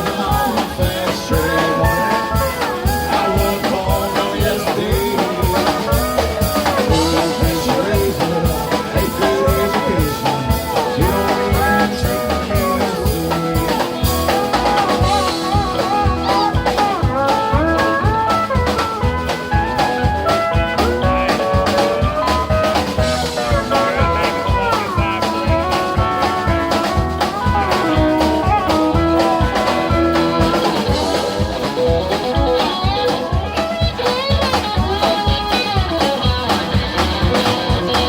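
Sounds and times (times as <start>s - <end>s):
drum-kit beat: 0.0s - 38.0s
lead guitar bending notes: 0.0s - 38.0s.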